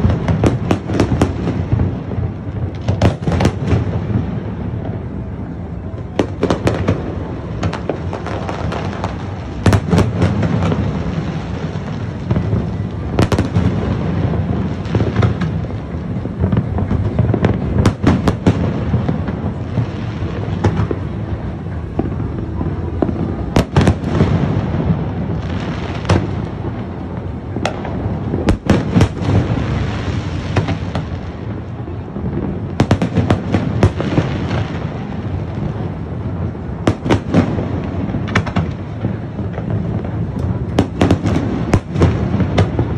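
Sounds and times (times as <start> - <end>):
distant fireworks bursts: 0.0 - 42.9
fireworks sharp bangs: 0.0 - 42.9.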